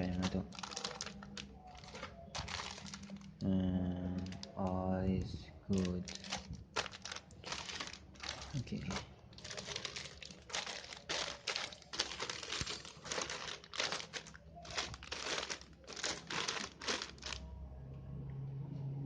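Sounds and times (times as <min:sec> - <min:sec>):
plastic packaging crinkling: 0:00.0 - 0:04.9, 0:05.7 - 0:17.4.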